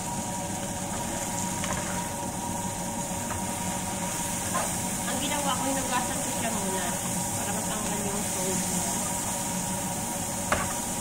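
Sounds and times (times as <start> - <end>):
fish sizzling in a frying pan: 0.0 - 11.0.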